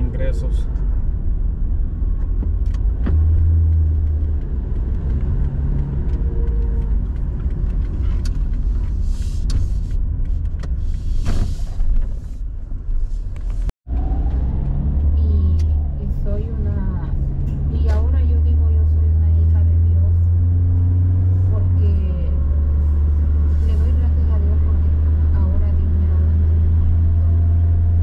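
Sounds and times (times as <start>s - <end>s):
car engine and tyre rumble: 0.0s - 28.0s.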